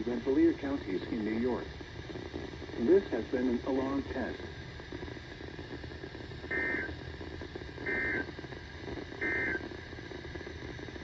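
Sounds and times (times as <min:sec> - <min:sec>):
radio static: 0:00.0 - 0:10.7.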